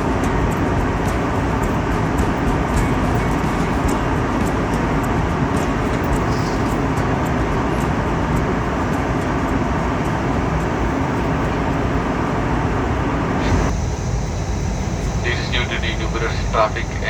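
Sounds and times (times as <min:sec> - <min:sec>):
airliner cabin noise: 0:00.0 - 0:17.0.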